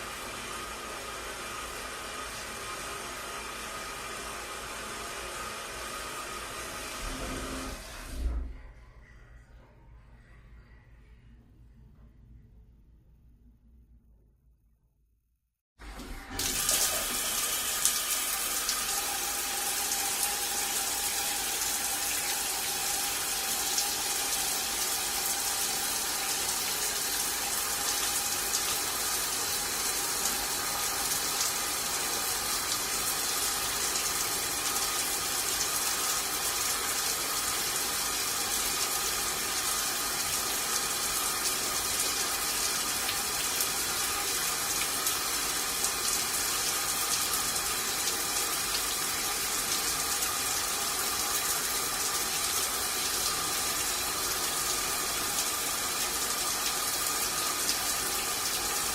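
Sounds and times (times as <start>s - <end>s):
water running: 0.0s - 8.4s, 15.8s - 58.9s.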